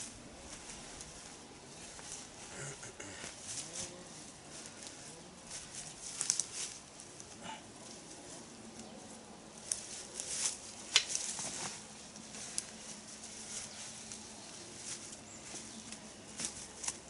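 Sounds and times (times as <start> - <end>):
grass and soil rustling: 0.0 - 17.0.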